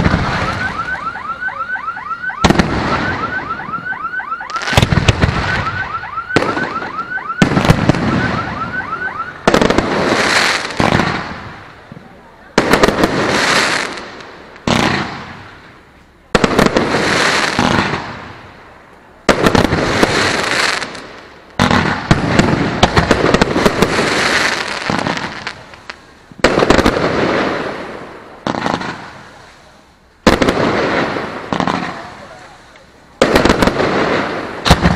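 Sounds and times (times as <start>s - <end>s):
firework bangs: 0.0s - 1.0s, 2.2s - 34.9s
firework crackling: 0.0s - 1.1s, 2.3s - 34.9s.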